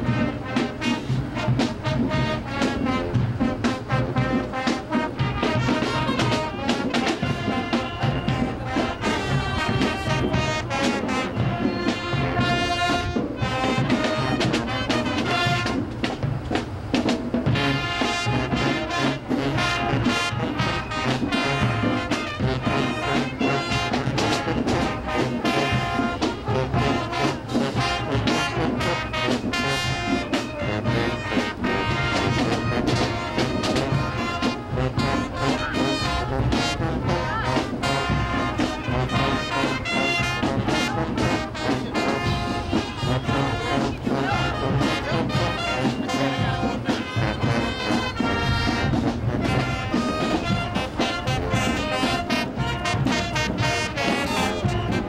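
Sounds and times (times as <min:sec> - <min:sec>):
brass playing tune: 0:00.0 - 0:55.0
steady drum beat: 0:00.0 - 0:55.0.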